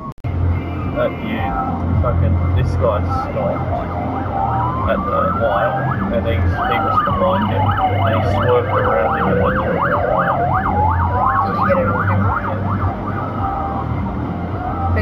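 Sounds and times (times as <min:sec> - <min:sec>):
siren wail: 0:00.0 - 0:15.0
ambulance siren yelp: 0:01.0 - 0:15.0.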